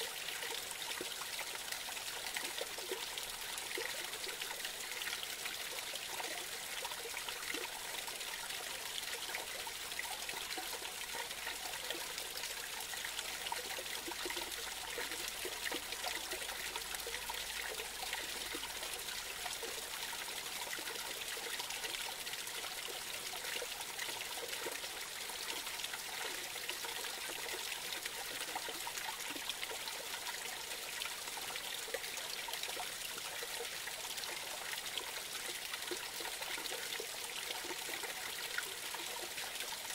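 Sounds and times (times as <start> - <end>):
creek trickling over cascade: 0.0 - 39.9.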